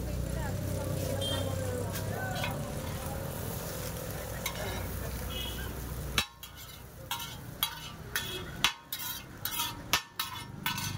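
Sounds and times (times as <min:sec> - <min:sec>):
frying sizzle on griddle: 0:00.0 - 0:10.9
metal spatula scraping griddle: 0:01.9 - 0:10.9.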